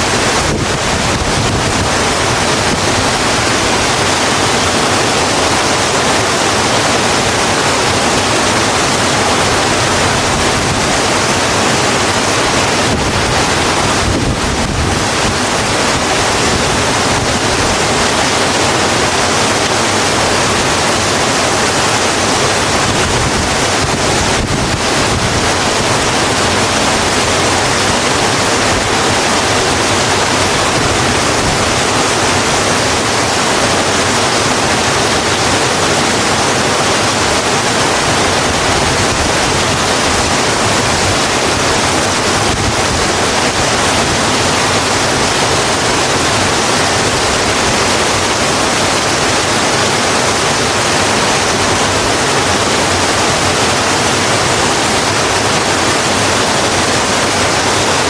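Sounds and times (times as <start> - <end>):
rain falling on a road: 0.1 - 58.0.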